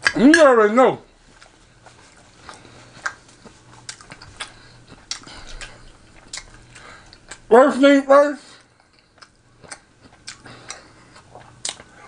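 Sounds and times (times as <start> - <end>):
faint low hum: 0.0 - 12.0
chewing with mouth clicks: 1.2 - 7.5, 8.6 - 12.0.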